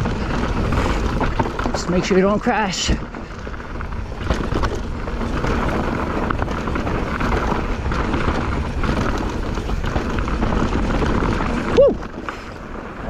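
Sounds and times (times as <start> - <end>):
bike rattling over bumps: 0.0 - 13.0
tyres running over dirt and rocks: 0.0 - 13.0
wind rushing over microphone: 0.0 - 13.0.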